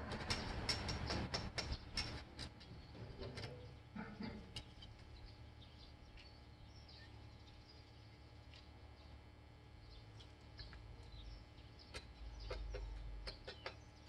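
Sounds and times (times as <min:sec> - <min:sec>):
birds chirping: 0:00.2 - 0:14.0.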